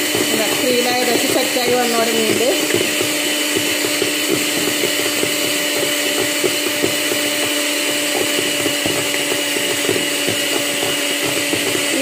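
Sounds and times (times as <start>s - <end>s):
electric hand mixer whipping cream: 0.0s - 12.0s.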